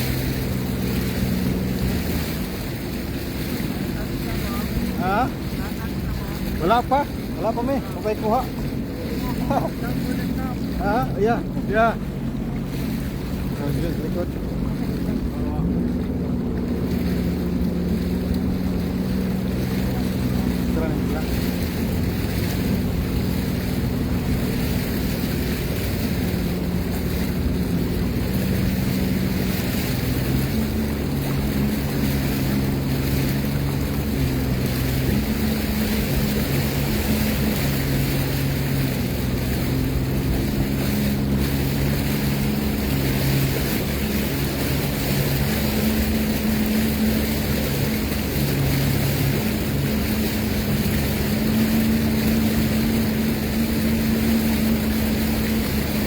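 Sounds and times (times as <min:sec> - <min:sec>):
personal watercraft engine: 0:00.0 - 0:56.0
rushing water: 0:00.0 - 0:56.0.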